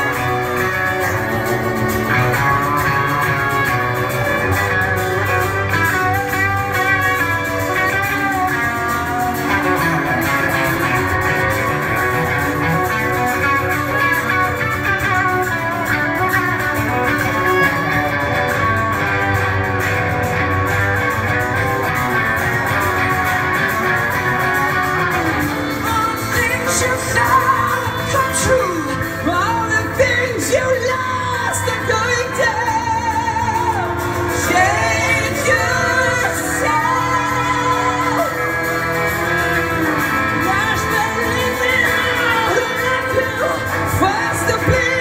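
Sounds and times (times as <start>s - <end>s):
acoustic guitar strumming: 0.0s - 45.0s
electric guitar: 0.0s - 45.0s.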